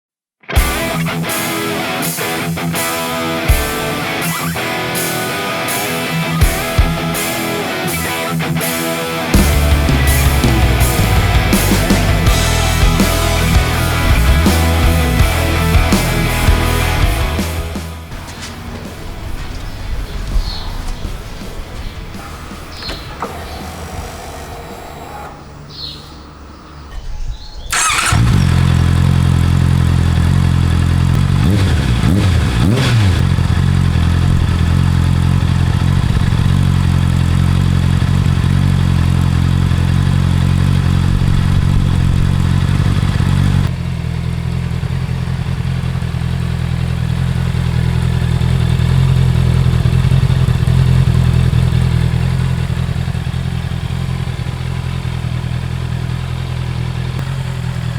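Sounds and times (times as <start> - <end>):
engine revving: 0.6 - 57.9
motorcycle engine starting and idling: 0.6 - 57.9.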